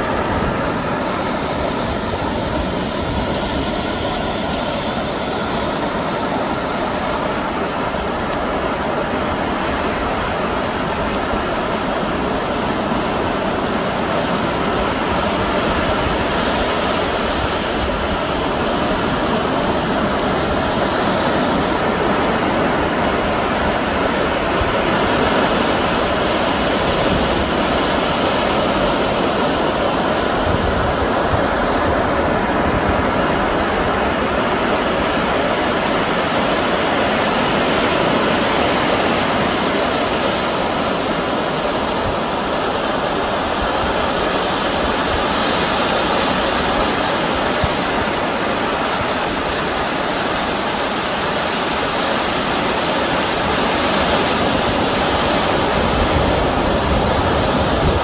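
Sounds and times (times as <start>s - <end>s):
surf breaking on shore: 0.0s - 58.0s.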